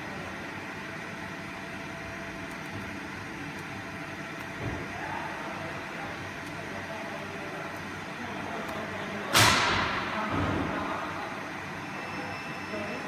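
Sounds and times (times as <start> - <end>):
workshop machinery hum: 0.0 - 13.0.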